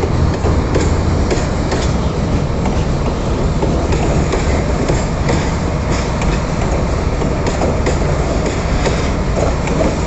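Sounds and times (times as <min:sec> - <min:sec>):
wheels clacking over rail joints: 0:00.0 - 0:10.0.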